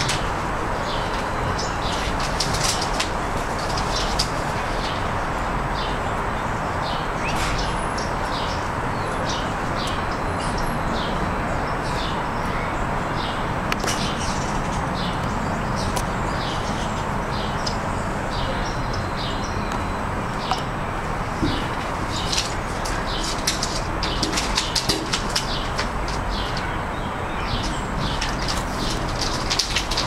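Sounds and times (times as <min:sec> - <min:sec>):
outdoor background noise: 0:00.0 - 0:30.0
small birds chirping: 0:00.0 - 0:30.0.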